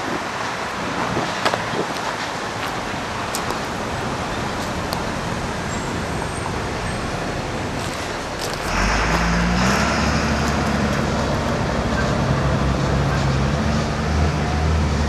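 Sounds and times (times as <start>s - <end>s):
diesel locomotive engine drone: 0.0s - 15.0s
train rumbling: 0.0s - 15.0s.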